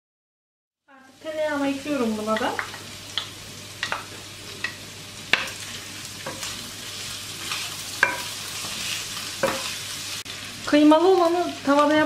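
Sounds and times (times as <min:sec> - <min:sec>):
meat sizzling in a frying pan: 0:00.9 - 0:12.0.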